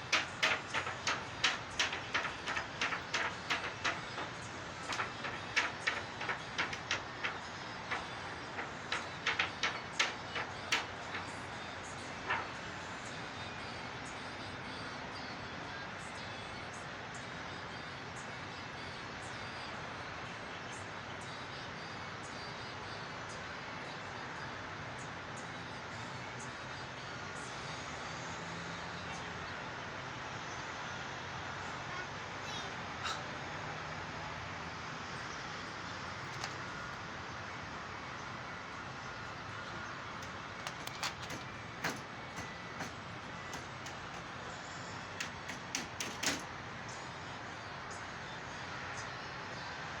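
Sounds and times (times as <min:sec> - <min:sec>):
steady background hum: 0:00.0 - 0:24.1, 0:29.5 - 0:50.0.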